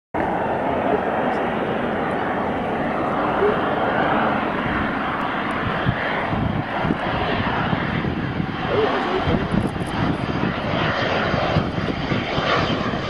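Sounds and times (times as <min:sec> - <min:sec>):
jet engines rushing: 0:00.2 - 0:13.0.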